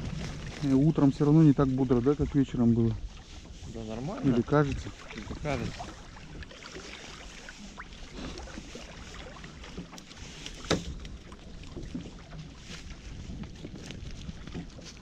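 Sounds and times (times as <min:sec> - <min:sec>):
water lapping and dripping: 0:00.0 - 0:15.0.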